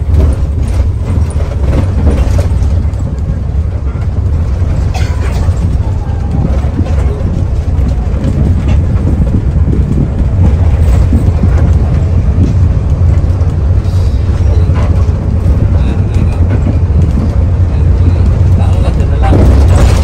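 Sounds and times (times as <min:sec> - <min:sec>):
bus body rattling: 0:00.0 - 0:20.0
bus diesel engine rumbling: 0:00.0 - 0:20.0.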